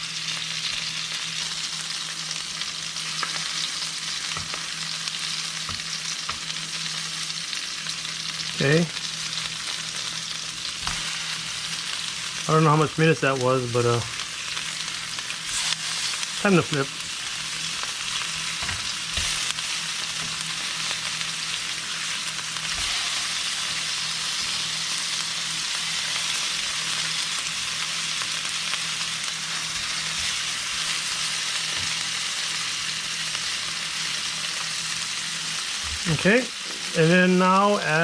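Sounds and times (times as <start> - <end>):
fish sizzling in a frying pan: 0.0 - 38.0.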